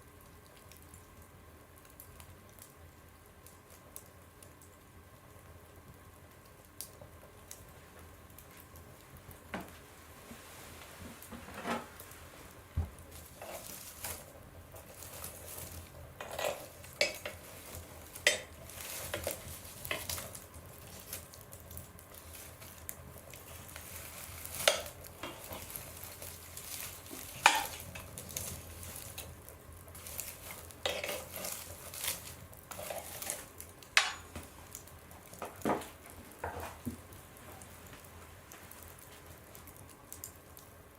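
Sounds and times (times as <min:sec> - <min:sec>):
fire crackling and popping: 0:00.0 - 0:40.9
soft fire hiss: 0:00.0 - 0:40.9.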